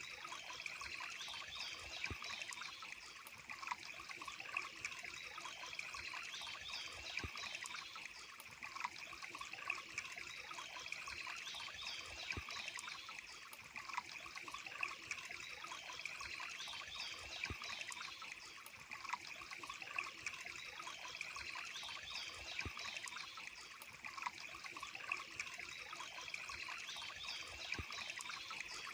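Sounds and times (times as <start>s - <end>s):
water trickling: 0.0s - 28.9s.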